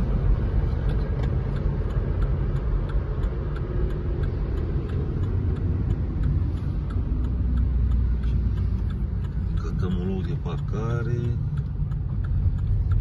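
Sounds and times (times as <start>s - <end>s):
car engine and tyre rumble: 0.0s - 13.0s
light regular ticking: 0.0s - 13.0s.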